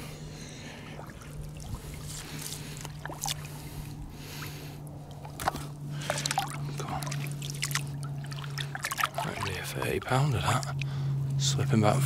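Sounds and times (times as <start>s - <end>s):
water sloshing and splashing: 0.0s - 11.6s
steady low hum: 0.0s - 12.0s.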